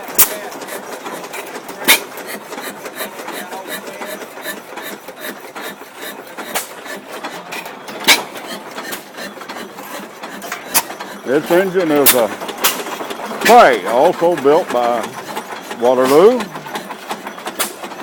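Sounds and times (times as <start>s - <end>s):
stationary engine clattering: 0.0s - 18.0s.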